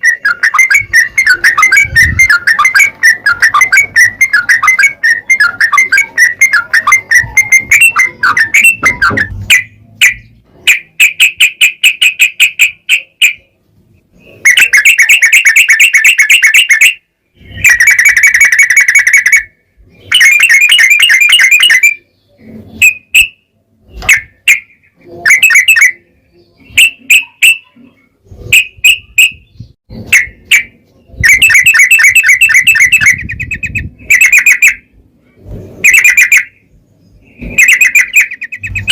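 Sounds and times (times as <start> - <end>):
bulbul singing fast trills: 0.0 - 35.0, 35.8 - 38.9.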